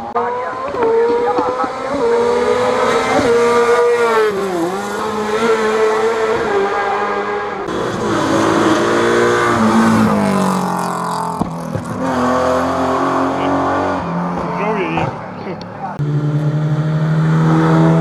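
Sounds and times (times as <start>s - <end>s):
rally car engine at hard throttle: 0.0s - 18.0s.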